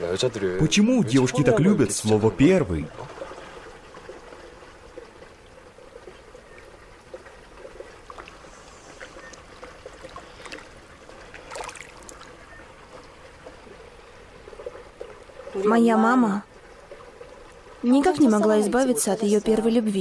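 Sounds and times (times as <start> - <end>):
water trickling and lapping: 0.0 - 20.0
small water splashes: 1.1 - 19.6.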